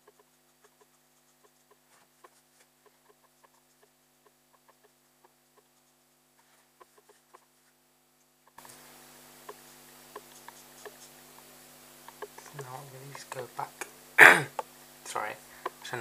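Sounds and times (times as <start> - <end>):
marker nib scratching paper: 0.0 - 11.5, 12.1 - 13.5
background hiss: 0.0 - 16.0
steady low hum: 0.0 - 16.0.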